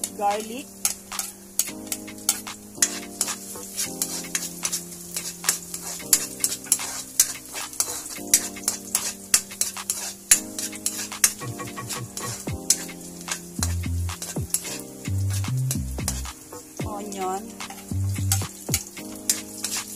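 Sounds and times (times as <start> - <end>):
sizzling in hot oil: 0.0 - 19.9.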